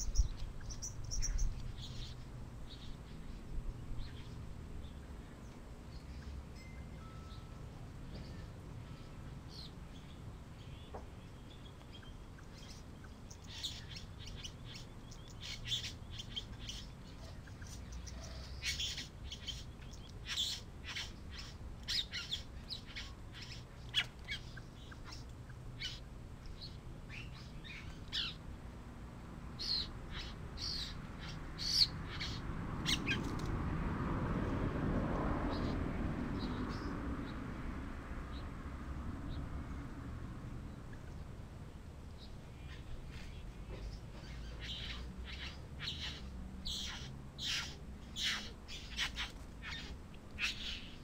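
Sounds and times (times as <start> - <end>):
birds chirping: 0.0 - 28.6, 29.4 - 33.5, 35.4 - 37.5, 40.6 - 51.0.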